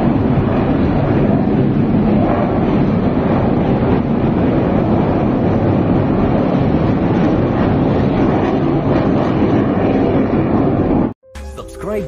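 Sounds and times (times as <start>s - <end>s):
aircraft flying overhead: 0.0s - 11.2s.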